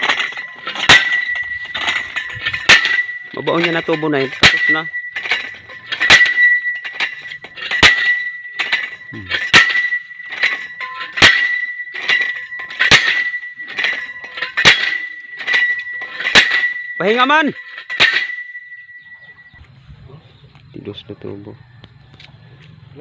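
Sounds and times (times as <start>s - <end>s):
drop weight clanging on steel pipe: 0.0s - 19.6s
steel pipe ringing: 0.0s - 19.7s.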